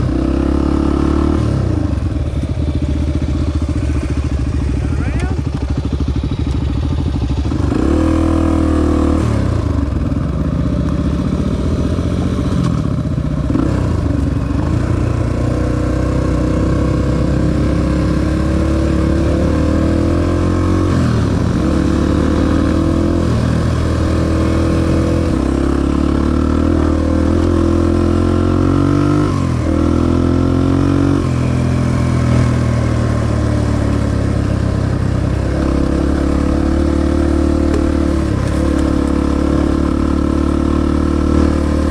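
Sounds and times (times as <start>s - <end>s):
dirt bike engine revving: 0.0s - 6.3s, 7.2s - 9.9s, 13.5s - 41.9s.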